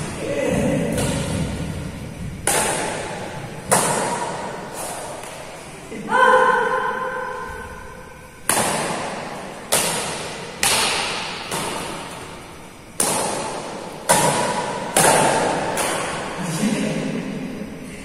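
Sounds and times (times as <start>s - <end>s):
rackets hitting shuttlecock with echo: 0.0s - 5.8s, 6.5s - 17.4s.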